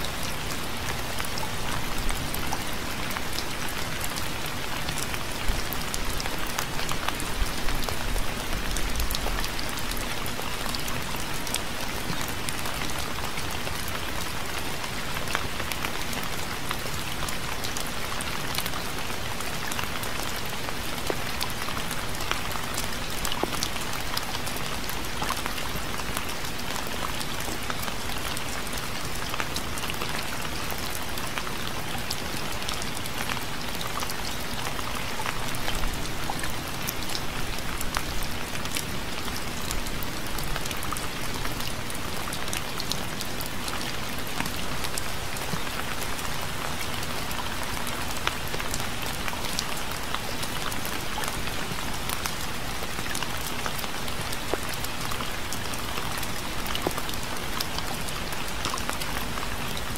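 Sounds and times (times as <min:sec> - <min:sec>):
steady gentle rain: 0:00.0 - 0:59.9.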